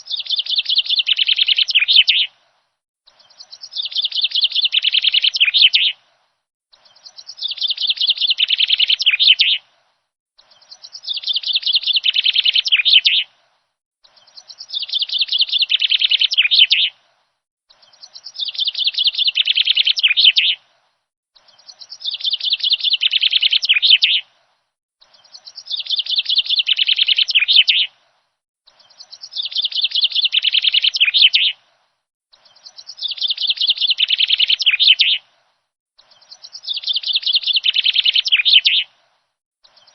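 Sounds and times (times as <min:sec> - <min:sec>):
rapid high bird chirps: 0:00.0 - 0:02.3, 0:03.0 - 0:06.0, 0:06.7 - 0:09.6, 0:10.4 - 0:13.3, 0:14.0 - 0:17.0, 0:17.7 - 0:20.6, 0:21.4 - 0:24.3, 0:25.0 - 0:28.0, 0:28.6 - 0:31.6, 0:32.3 - 0:35.3, 0:36.0 - 0:39.9.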